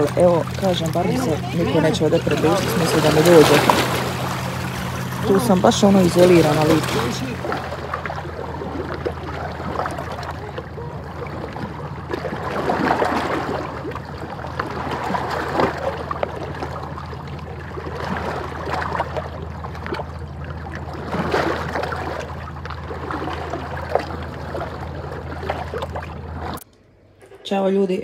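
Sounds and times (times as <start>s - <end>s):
water lapping against rocks: 0.0s - 26.6s
steady low hum: 0.0s - 28.0s.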